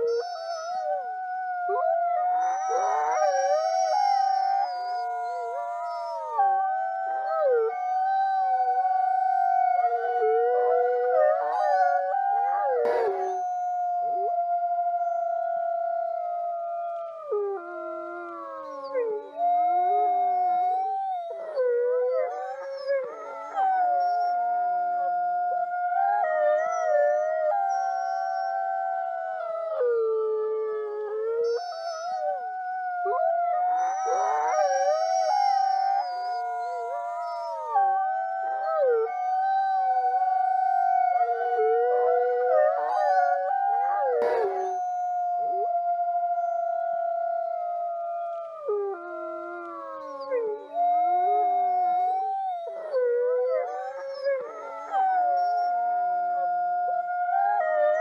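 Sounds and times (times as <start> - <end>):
wolves howling: 0.0 - 58.0.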